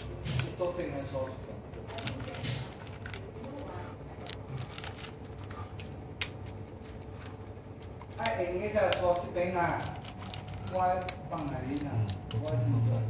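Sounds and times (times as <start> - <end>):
dog crunching dry kibble: 0.0 - 13.0.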